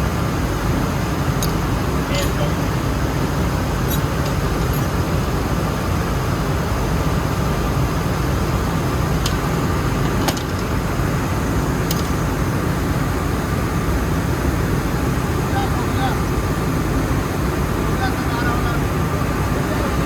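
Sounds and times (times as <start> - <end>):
mill machinery droning: 0.0 - 20.0.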